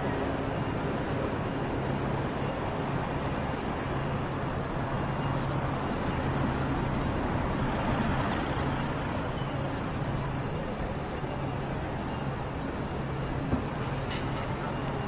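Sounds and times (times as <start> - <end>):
hum of traffic: 0.0 - 15.0.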